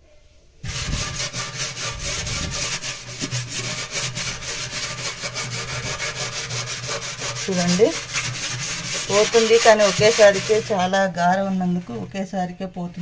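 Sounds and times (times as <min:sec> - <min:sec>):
steel scrubber scouring a sink: 0:00.6 - 0:12.0.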